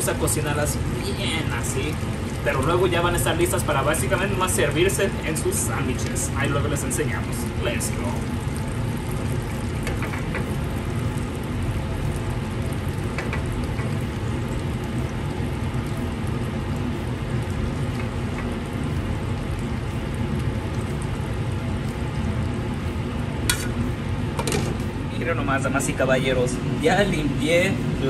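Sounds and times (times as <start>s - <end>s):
meatballs sizzling in a pan: 0.0s - 25.1s.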